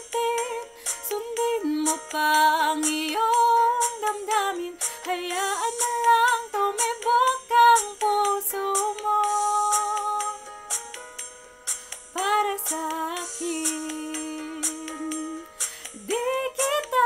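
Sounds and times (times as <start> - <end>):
woman singing a ballad: 0.0 - 10.8, 12.1 - 17.0.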